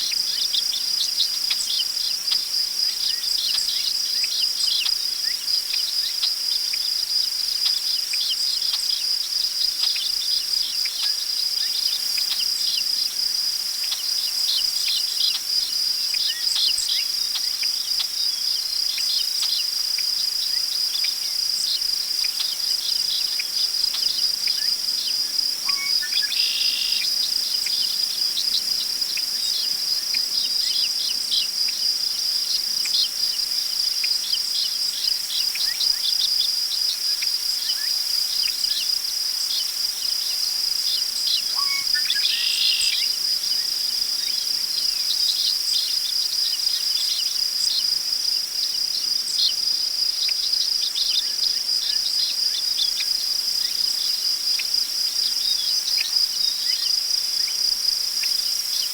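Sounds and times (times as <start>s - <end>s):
crickets trilling: 0.0s - 58.9s.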